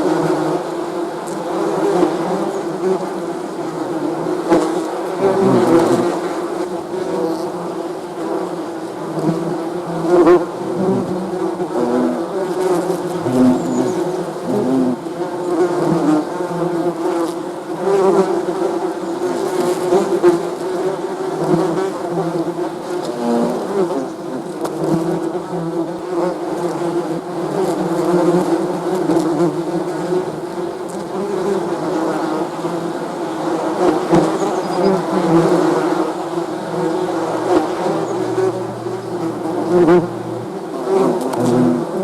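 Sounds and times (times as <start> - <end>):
bees buzzing: 0.0 - 42.0.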